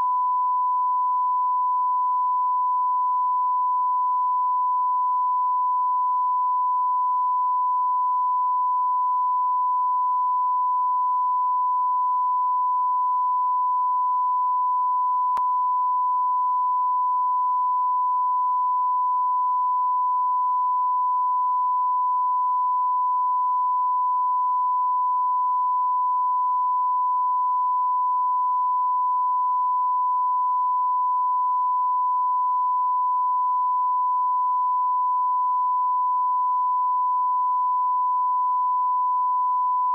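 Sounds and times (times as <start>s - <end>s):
electronic sine tone: 0.0s - 39.9s.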